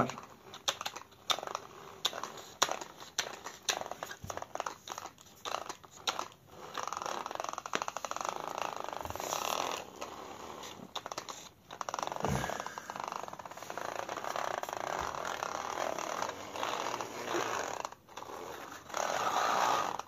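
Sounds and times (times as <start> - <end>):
toy car motor whirring: 0.0 - 20.0.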